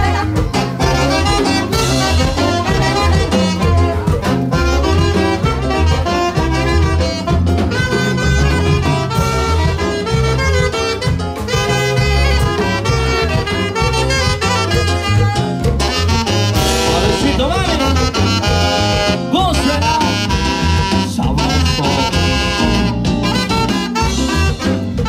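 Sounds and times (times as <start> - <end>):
live dance band playing: 0.0 - 25.0
saxophone melody: 0.0 - 25.0.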